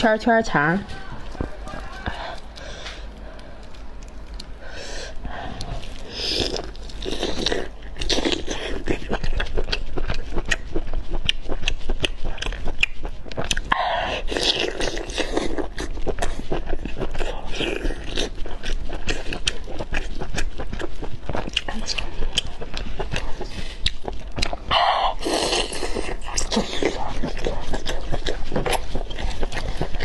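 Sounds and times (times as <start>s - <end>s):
sausage biting and chewing: 1.3s - 30.0s.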